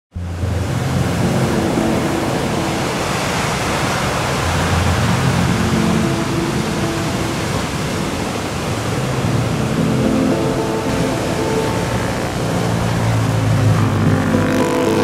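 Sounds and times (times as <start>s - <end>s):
ocean waves breaking: 0.2s - 15.0s.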